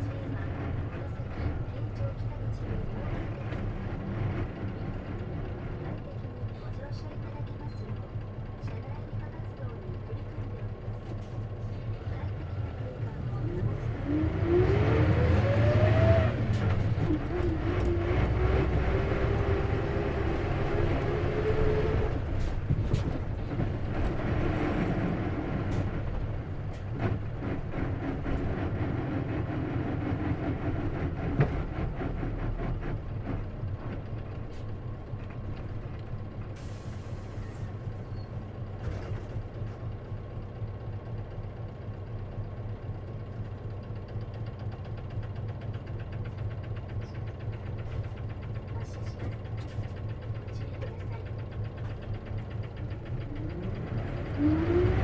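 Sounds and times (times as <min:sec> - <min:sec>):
bus drivetrain whine: 0:00.0 - 0:55.0.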